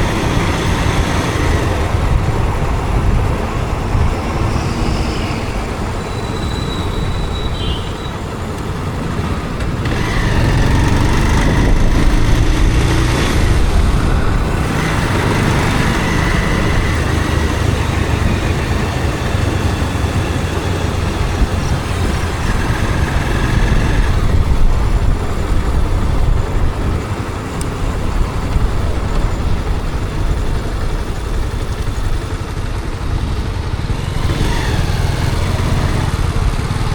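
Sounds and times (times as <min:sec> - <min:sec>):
motorcycle engine and wind rumble: 0:00.0 - 0:36.9
passing vehicles: 0:00.0 - 0:36.9.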